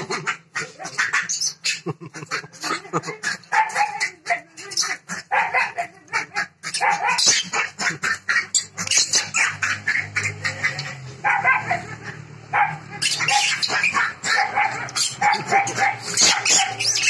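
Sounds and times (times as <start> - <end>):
dog barking and yipping: 0.0 - 1.8, 3.2 - 17.0.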